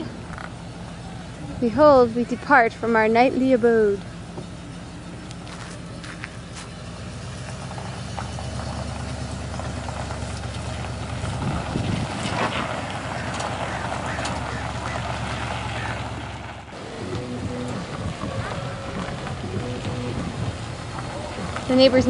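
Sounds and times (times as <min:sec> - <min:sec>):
motorhome engine running: 0:00.0 - 0:22.0.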